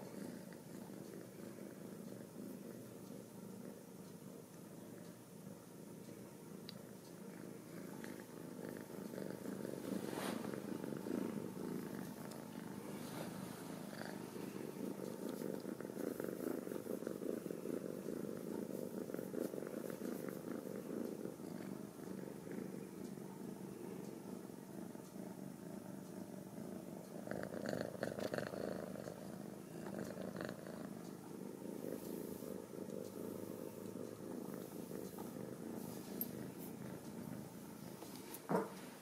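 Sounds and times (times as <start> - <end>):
kitten purring: 0.0 - 39.0.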